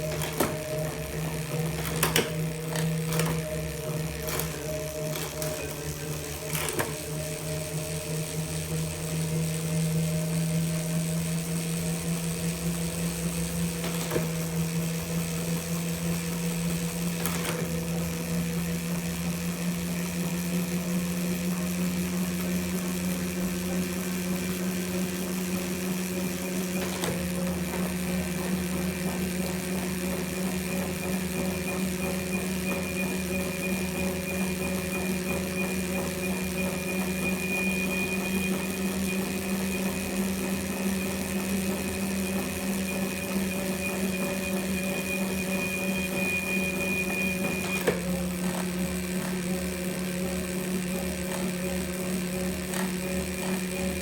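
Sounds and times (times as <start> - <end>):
bike trainer whine and hum: 0.0 - 54.0.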